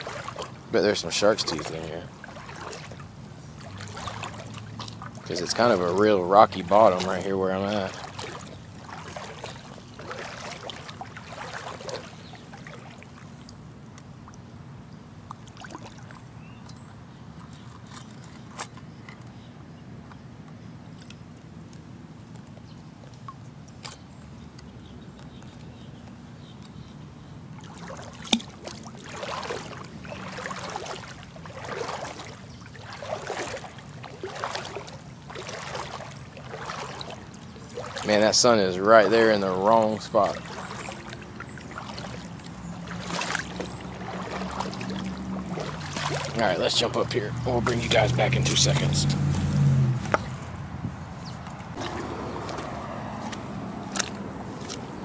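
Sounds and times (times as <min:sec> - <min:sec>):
low rumble of road traffic: 0:00.0 - 0:55.0
water sloshing from wading: 0:00.0 - 0:55.0.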